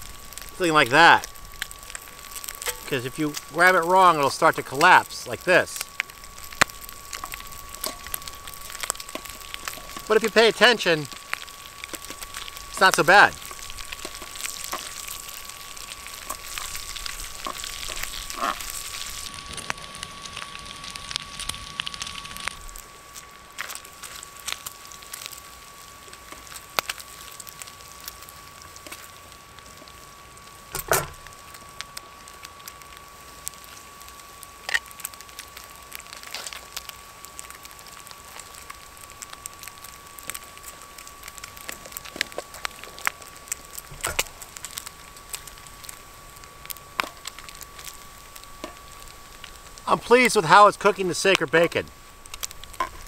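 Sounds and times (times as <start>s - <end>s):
bacon sizzling in a pan: 0.0s - 53.0s
stove fan humming: 0.0s - 53.0s.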